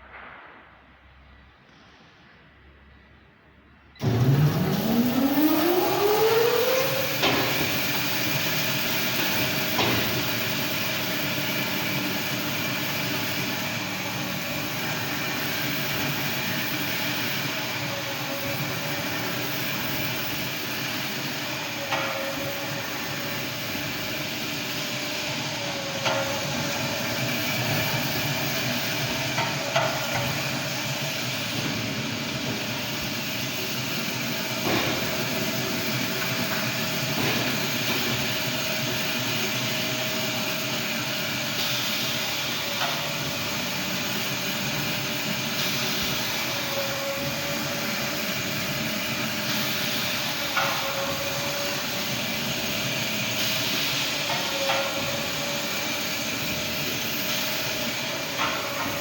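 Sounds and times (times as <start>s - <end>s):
cutting machine hum: 4.0s - 59.0s.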